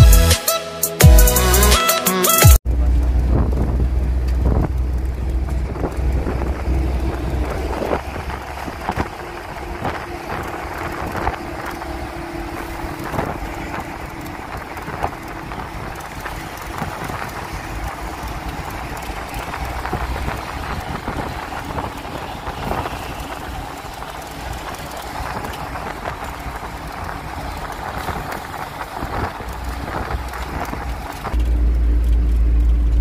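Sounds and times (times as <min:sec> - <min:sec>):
truck road rumble: 0:02.6 - 0:33.0
wind rushing over microphone: 0:03.1 - 0:31.4.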